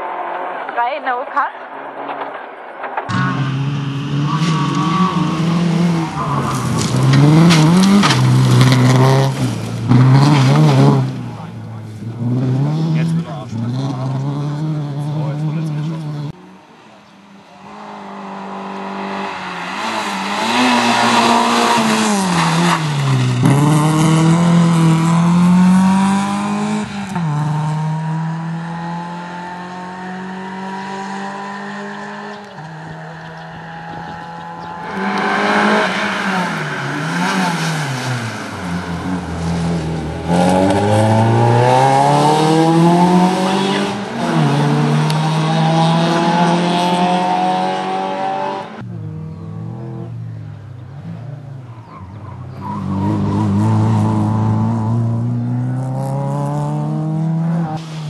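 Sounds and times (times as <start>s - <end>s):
rally car engine revving: 1.7s - 16.7s, 17.4s - 58.0s.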